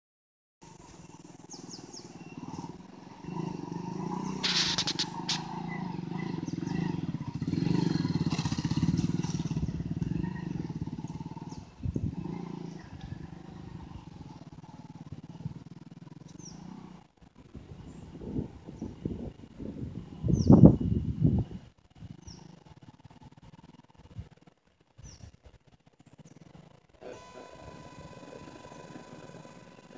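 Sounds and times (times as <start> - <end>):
motorcycle engine running: 0.6 - 29.9.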